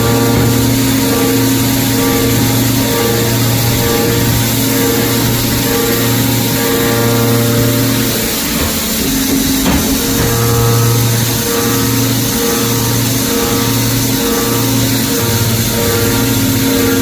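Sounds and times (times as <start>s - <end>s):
milling machine hum: 0.0s - 17.0s.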